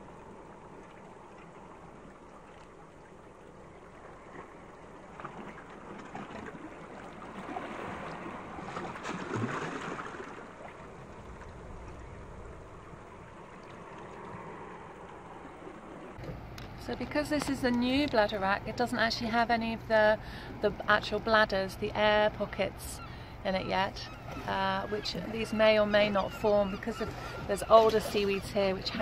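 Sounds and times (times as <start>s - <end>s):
sea water washing and trickling: 0.0s - 29.0s.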